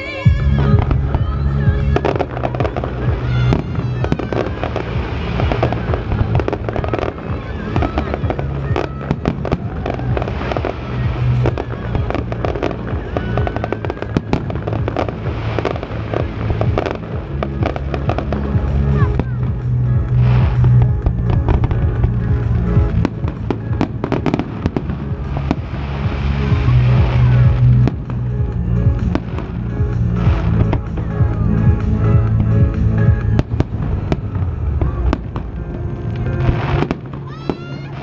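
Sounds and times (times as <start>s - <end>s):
fireworks bangs and crackling: 0.0s - 38.0s
music with deep notes: 0.2s - 38.0s.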